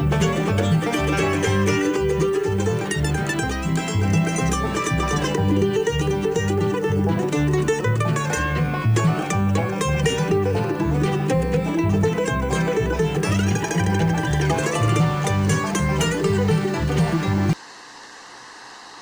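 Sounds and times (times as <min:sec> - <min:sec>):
upbeat bluegrass music: 0:00.0 - 0:17.6.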